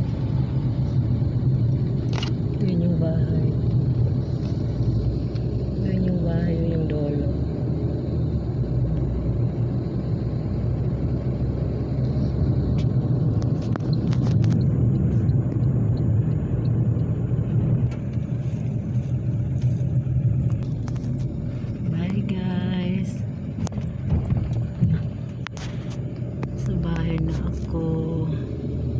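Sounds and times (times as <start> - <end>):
car engine and road noise: 0.0 - 28.9.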